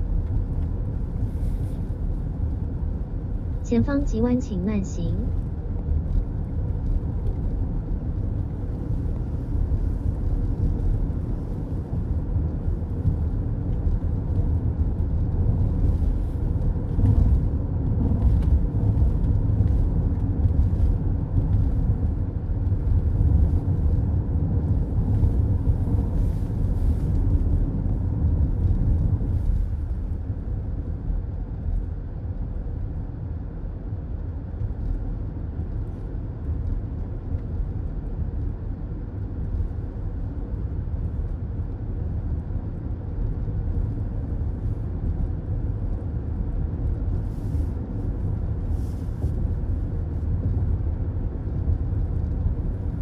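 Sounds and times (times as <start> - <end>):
car tyre and engine rumble: 0.0 - 4.0, 5.3 - 53.0.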